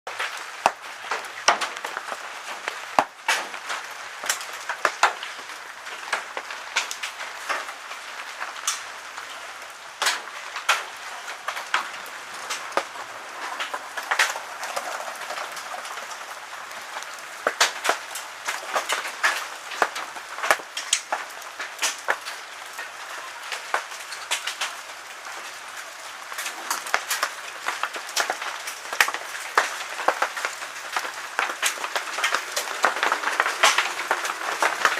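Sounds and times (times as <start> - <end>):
hailstones striking hard surfaces: 0.1 - 8.8, 10.0 - 34.9.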